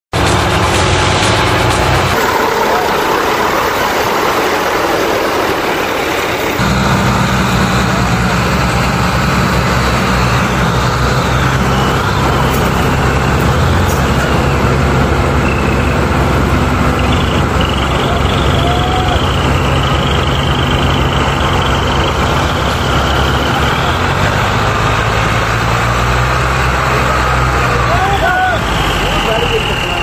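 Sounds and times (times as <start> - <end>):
tractor diesel engine under load: 0.1 - 30.0.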